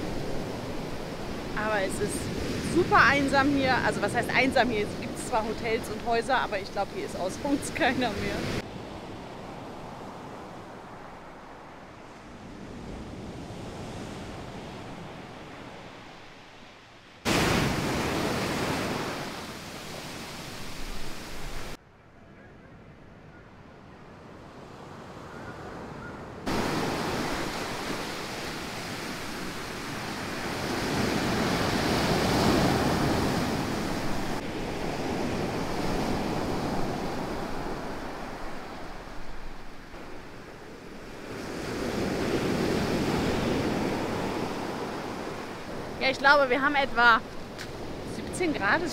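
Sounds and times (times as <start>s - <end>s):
waves breaking on a beach: 0.0s - 21.8s, 24.0s - 48.9s.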